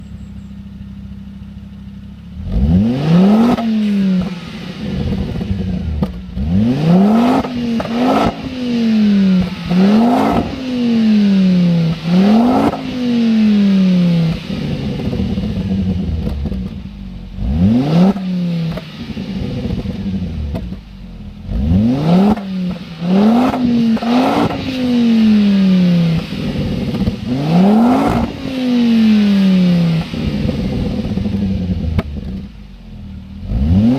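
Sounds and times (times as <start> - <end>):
car engine revving: 1.0 - 33.9.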